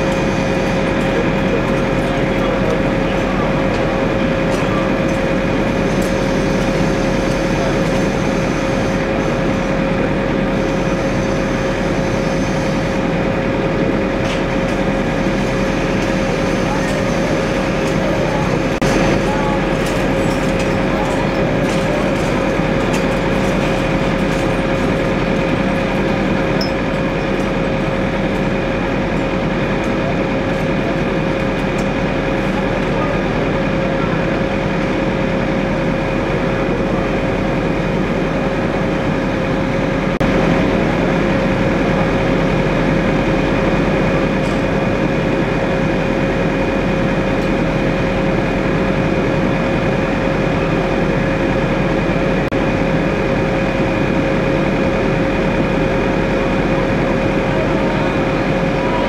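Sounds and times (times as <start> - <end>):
fire engine running: 0.0 - 59.0.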